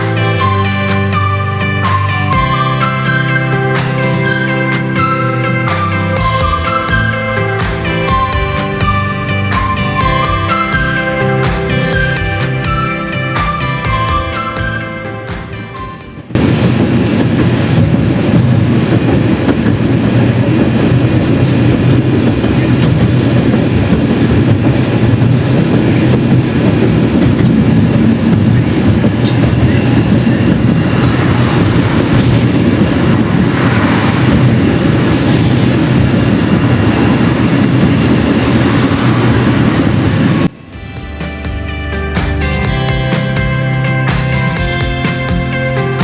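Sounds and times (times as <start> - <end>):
tram wheels rumbling on rails: 0.0 - 46.0.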